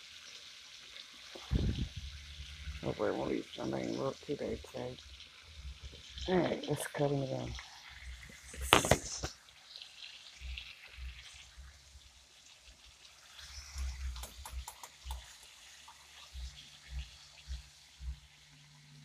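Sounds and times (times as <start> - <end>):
faint sizzle of frying meat: 0.0 - 19.0.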